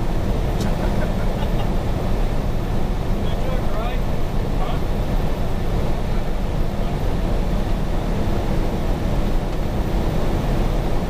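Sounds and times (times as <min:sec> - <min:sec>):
diesel engine low rumble: 0:00.0 - 0:11.0
road noise: 0:00.0 - 0:11.0.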